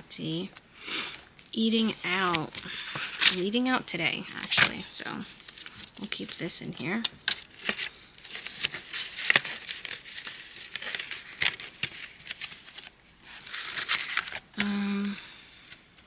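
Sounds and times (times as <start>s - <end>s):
plastic sleeves and paper rustling: 1.6s - 14.7s.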